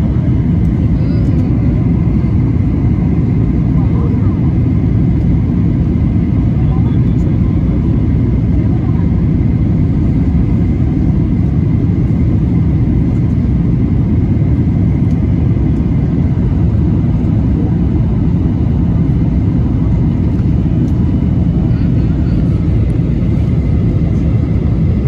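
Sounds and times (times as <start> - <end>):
jet cabin engine rumble: 0.0 - 25.0.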